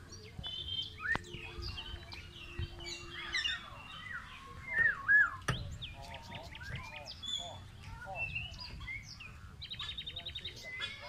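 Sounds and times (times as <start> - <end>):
small birds chirping and whistling: 0.0 - 11.0.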